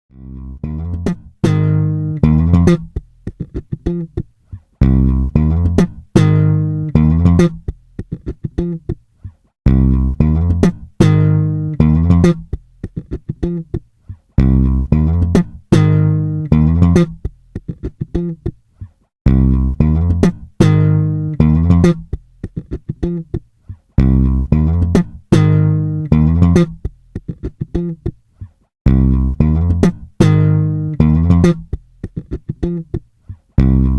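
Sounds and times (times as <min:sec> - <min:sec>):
plucked bass and guitar riff: 0:00.1 - 0:09.0, 0:09.6 - 0:18.6, 0:19.2 - 0:28.2, 0:28.8 - 0:33.9.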